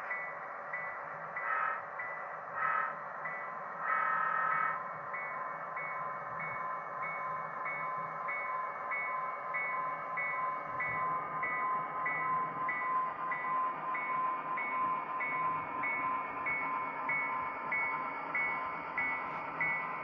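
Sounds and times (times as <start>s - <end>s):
model locomotive bell ringing: 0.0s - 20.0s.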